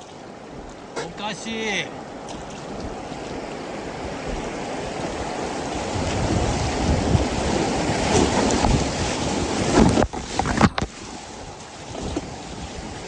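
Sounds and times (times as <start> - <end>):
river water rushing: 0.0 - 13.0
wind rumbling on microphone: 2.0 - 13.0.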